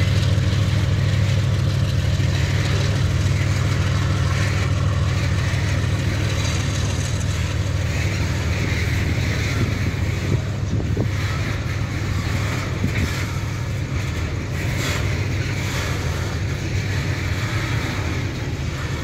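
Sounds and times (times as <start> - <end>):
train wagons rumbling on rails: 0.0 - 19.0.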